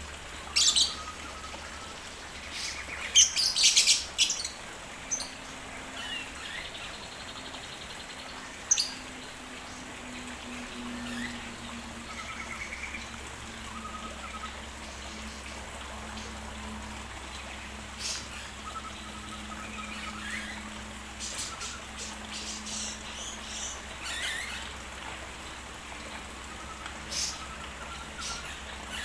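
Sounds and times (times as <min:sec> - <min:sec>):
water trickling: 0:00.0 - 0:29.0
steady low hum: 0:04.0 - 0:29.0.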